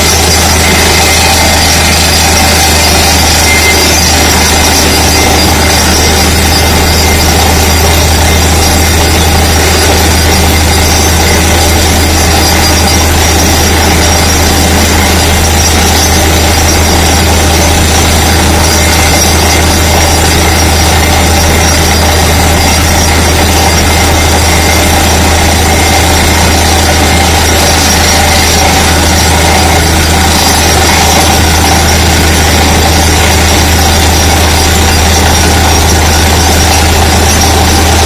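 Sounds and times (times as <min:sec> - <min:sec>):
drilling rig engine running: 0:00.0 - 0:38.0.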